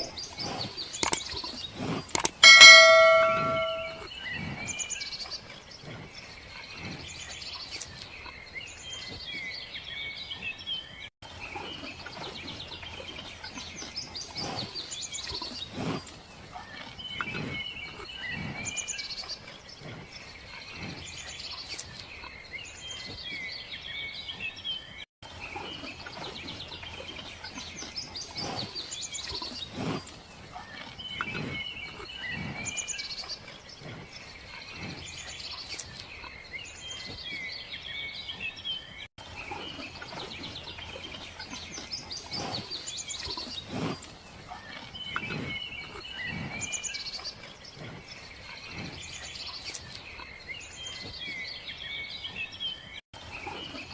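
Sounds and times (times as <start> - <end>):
small birds chirping and singing: 0.0 - 53.9.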